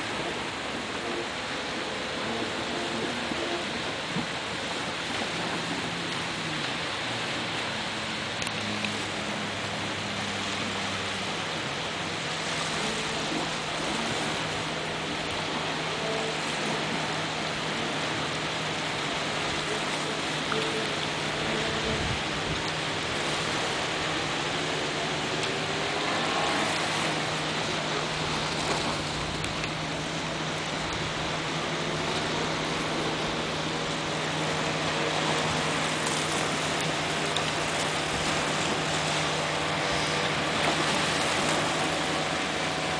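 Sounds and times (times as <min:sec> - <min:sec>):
distant watercraft engine drone: 0:00.0 - 0:42.9
surf breaking: 0:00.0 - 0:42.9
wind: 0:00.0 - 0:42.9.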